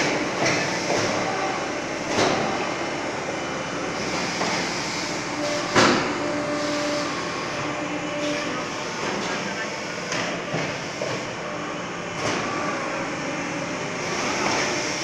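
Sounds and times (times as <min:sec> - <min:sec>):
hydraulic press running: 0:00.0 - 0:15.0.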